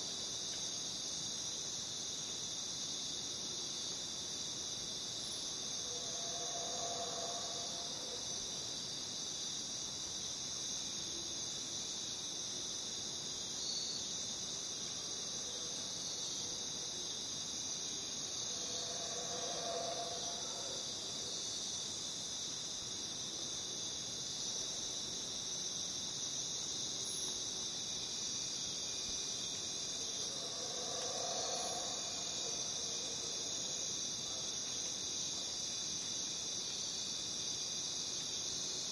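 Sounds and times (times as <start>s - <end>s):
crickets shrilling: 4.9s - 10.8s, 13.4s - 38.9s.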